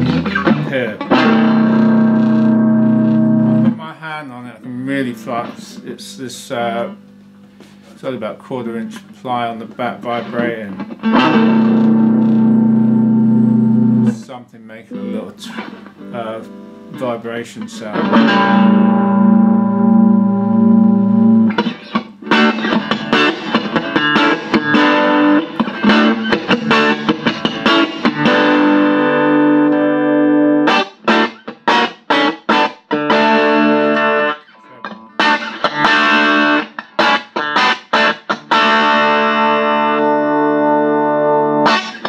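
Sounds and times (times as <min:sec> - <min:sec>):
distorted electric guitar: 0:00.0 - 0:04.0, 0:09.8 - 0:14.3, 0:14.9 - 0:42.0.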